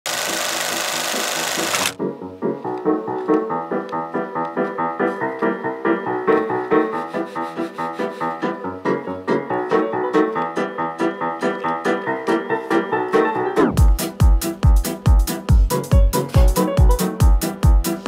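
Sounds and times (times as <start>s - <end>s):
rhythmic keyboard-like music: 1.1s - 18.0s.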